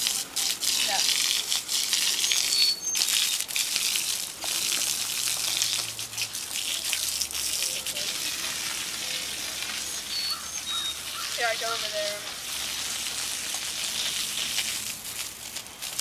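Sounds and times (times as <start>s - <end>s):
garden hose spraying water: 0.0s - 16.0s.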